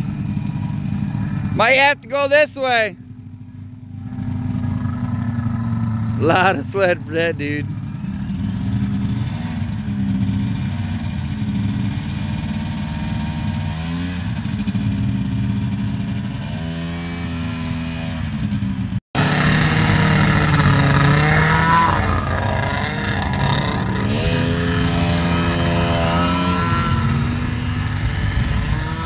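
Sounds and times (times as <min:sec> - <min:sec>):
snowmobile engine revving: 0:04.0 - 0:18.6, 0:19.2 - 0:29.0.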